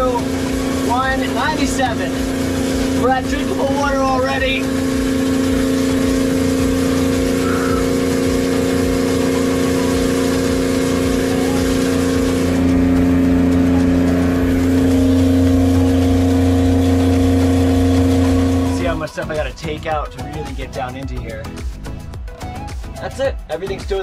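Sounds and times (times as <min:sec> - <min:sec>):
pump motor humming: 0:00.0 - 0:20.7.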